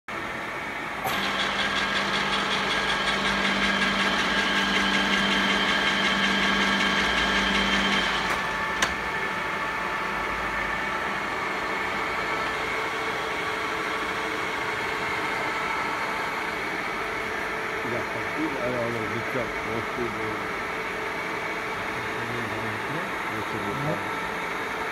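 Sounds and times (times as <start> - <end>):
milling machine whining: 0.9 - 24.9.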